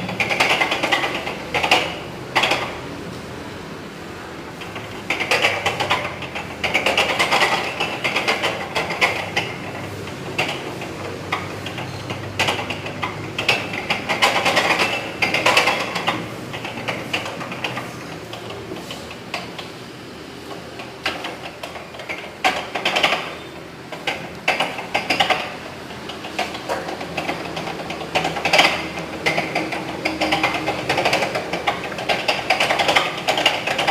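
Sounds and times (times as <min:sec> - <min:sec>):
dough sheeter clattering and clicking: 0:00.0 - 0:33.9.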